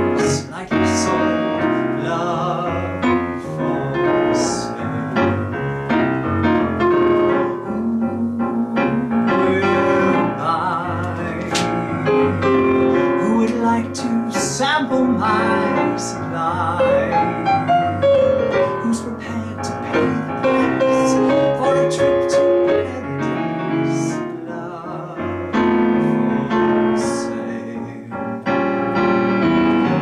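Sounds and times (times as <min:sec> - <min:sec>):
man singing: 0:00.0 - 0:06.0, 0:07.2 - 0:28.6
piano: 0:00.0 - 0:30.0.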